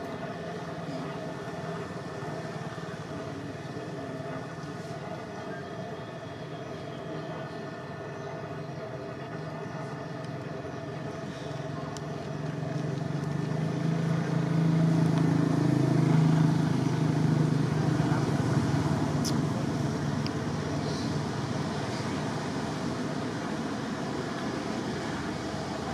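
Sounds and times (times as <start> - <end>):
low engine hum: 0.0 - 25.9.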